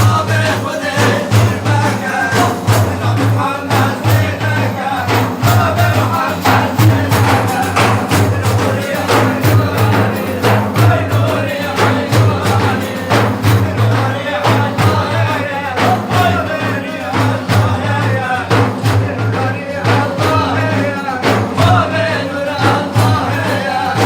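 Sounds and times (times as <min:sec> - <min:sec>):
devotional praise singing: 0:00.0 - 0:24.0
frame drums beating: 0:00.0 - 0:24.0.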